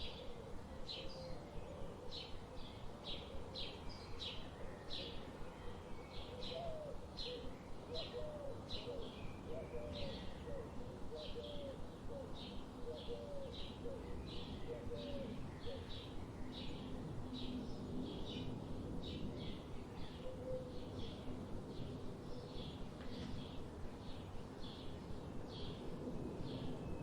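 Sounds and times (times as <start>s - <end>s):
low steady background noise: 0.0s - 27.0s.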